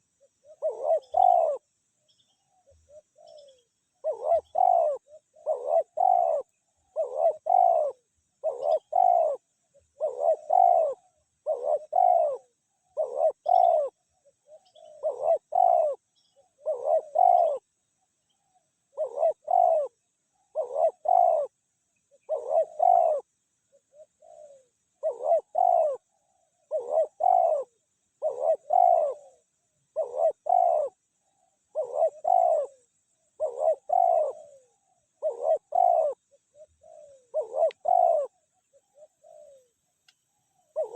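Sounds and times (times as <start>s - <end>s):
dove cooing: 0.0s - 39.8s, 40.6s - 40.9s.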